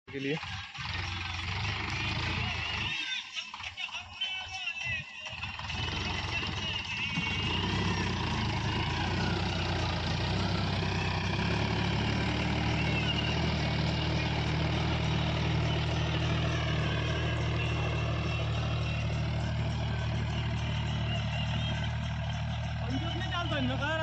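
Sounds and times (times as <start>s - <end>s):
tractor diesel engine under load: 0.1s - 24.0s.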